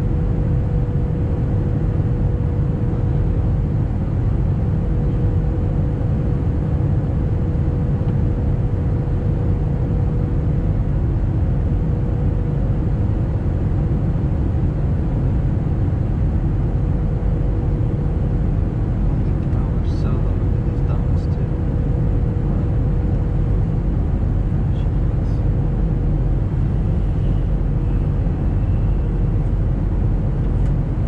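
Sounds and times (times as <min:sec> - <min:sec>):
airliner cabin rumble: 0:00.0 - 0:31.0
constant hum: 0:00.0 - 0:31.0.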